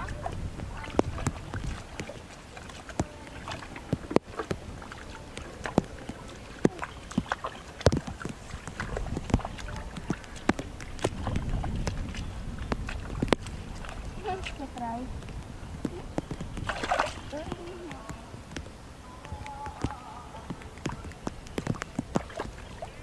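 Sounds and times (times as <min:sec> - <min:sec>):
hands sloshing through muddy water: 0:00.0 - 0:18.2, 0:19.4 - 0:23.0
sharp splashes and slaps: 0:00.0 - 0:23.0.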